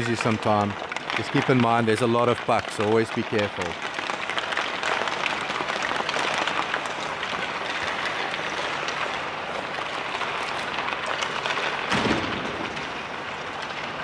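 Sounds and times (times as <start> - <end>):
skate blades scraping ice: 0.0 - 12.0
hockey sticks and pucks clicking: 0.0 - 14.0.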